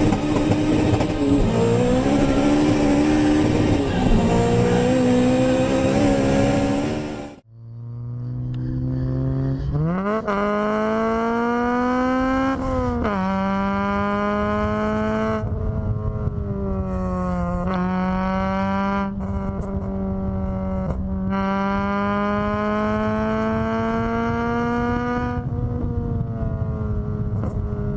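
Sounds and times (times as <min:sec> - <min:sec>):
car engine accelerating through gears: 0:00.0 - 0:27.9.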